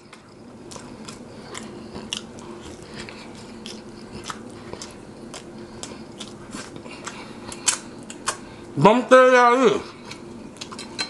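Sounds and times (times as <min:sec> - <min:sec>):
man chewing a sandwich: 0:00.0 - 0:08.8, 0:09.8 - 0:10.8.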